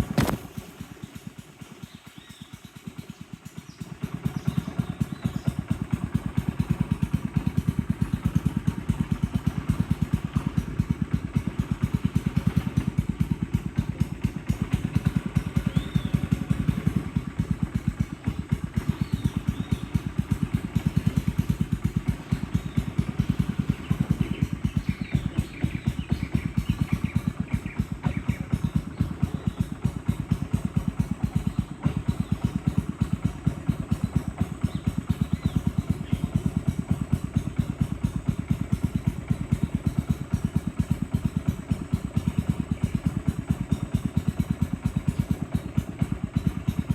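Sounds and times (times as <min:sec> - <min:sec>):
boat engine thudding: 0:00.0 - 0:01.0, 0:04.0 - 0:46.8.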